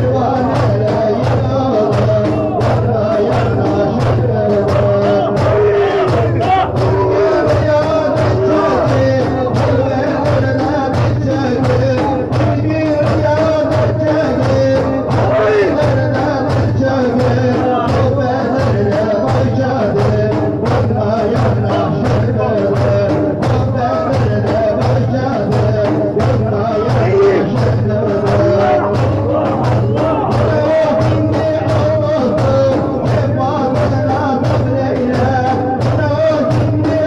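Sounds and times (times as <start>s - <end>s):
low rhythmic pulse and percussion: 0.0s - 37.0s
men singing a devotional hymn: 0.0s - 37.0s.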